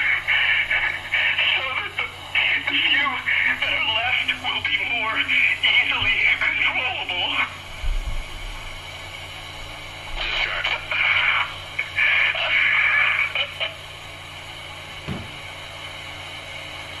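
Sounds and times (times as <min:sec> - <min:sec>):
radio static hiss: 0:00.0 - 0:16.3.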